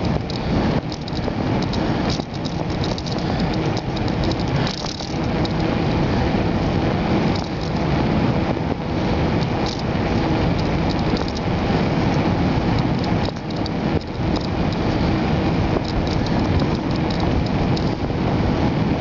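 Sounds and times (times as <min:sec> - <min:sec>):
light rattling ticks: 0:00.0 - 0:05.8, 0:06.6 - 0:08.0, 0:09.3 - 0:18.1
wind and road noise: 0:00.0 - 0:19.0.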